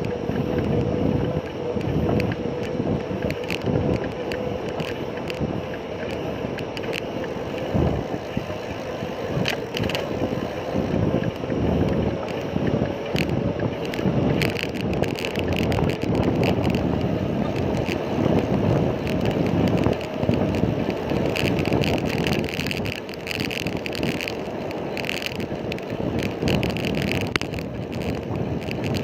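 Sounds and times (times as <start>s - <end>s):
constant hum: 0.0s - 29.0s
light ticks and rattles: 0.0s - 29.0s
wind buffeting microphone: 0.0s - 29.0s.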